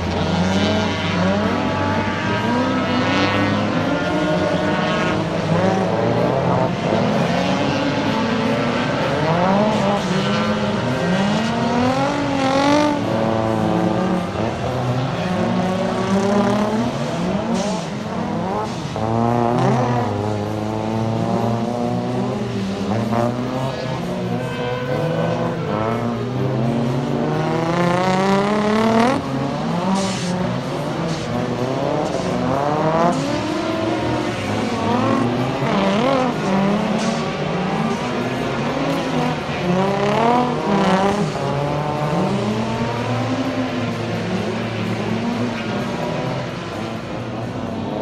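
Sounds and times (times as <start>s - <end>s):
motorcycle engines revving hard: 0.0s - 48.0s.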